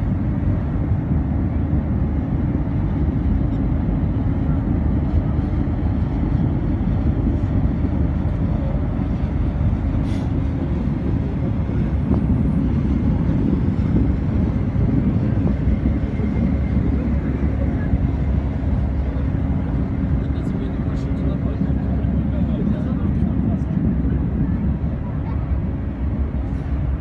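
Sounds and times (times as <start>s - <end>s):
ferry engines rumbling: 0.0s - 27.0s.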